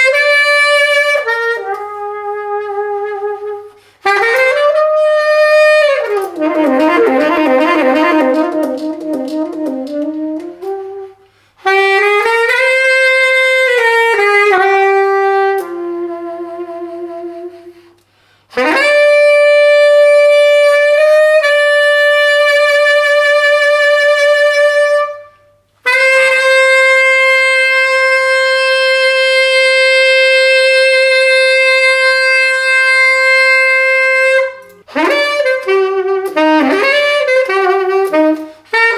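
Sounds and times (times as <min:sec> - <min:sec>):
solo saxophone melody: 0:00.0 - 0:38.9.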